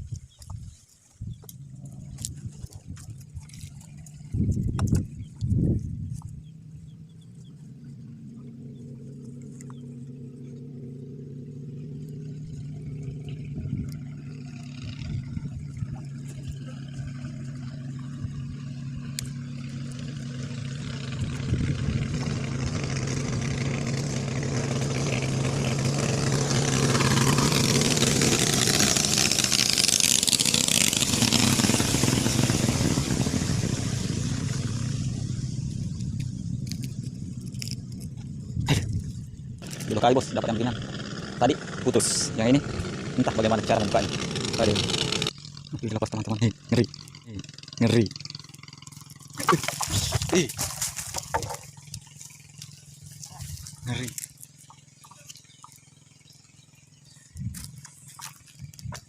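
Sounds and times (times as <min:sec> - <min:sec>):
engine humming passing by: 0:01.6 - 0:59.0.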